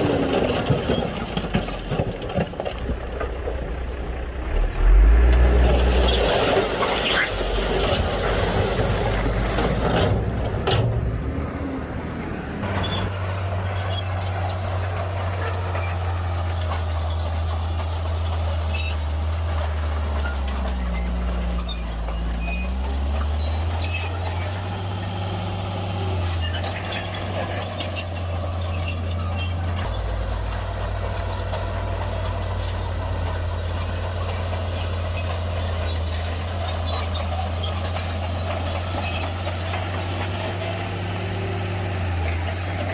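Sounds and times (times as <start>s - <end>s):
heavy diesel machinery running: 0.0s - 42.9s.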